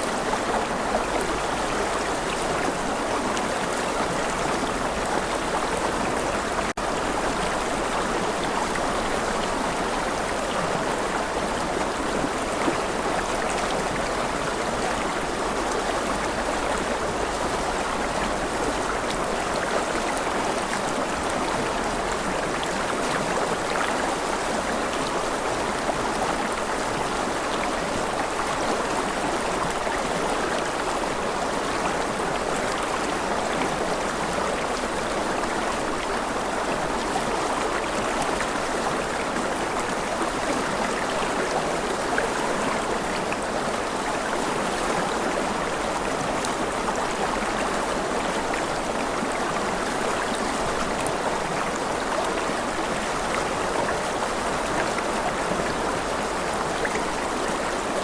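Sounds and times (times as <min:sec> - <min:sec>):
stream water rushing and gurgling: 0:00.0 - 0:58.0.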